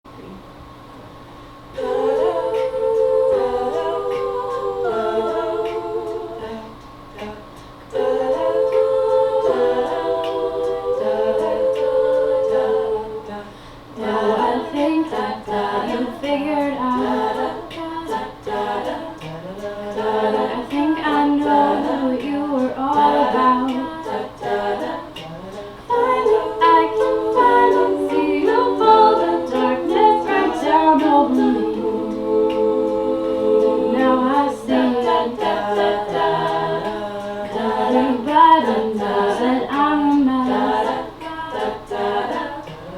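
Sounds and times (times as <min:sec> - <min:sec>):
a cappella group singing: 0:01.7 - 0:42.9
sharp clicks keeping a beat: 0:01.8 - 0:42.9.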